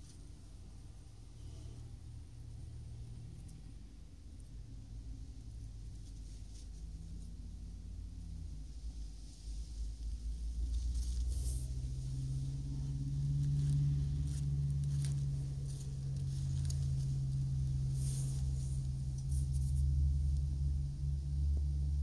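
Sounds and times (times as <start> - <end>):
steady low hum: 0.0 - 22.0
tortoise crunching leaves: 0.0 - 22.0.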